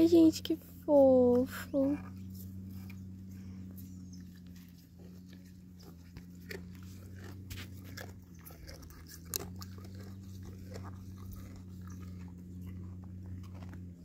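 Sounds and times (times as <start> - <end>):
calf chewing feed: 0.0 - 14.0.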